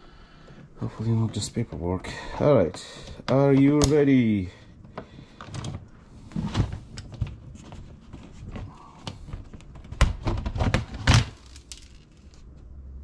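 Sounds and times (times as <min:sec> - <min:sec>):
boxes being handled: 0:00.6 - 0:12.5.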